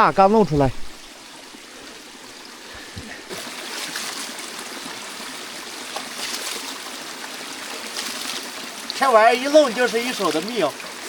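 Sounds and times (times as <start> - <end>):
water running and trickling: 0.0 - 11.0.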